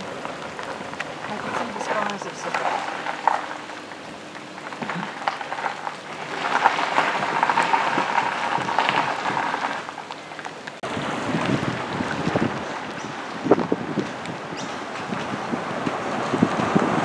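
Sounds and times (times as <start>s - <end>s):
rain on water and road: 0.0s - 17.0s.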